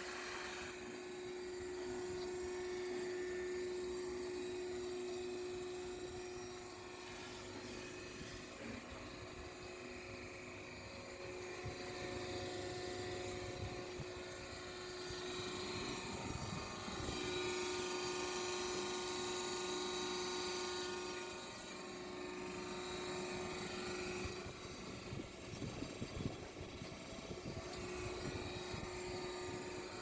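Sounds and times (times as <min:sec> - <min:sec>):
band saw humming and whining: 0:00.0 - 0:30.0.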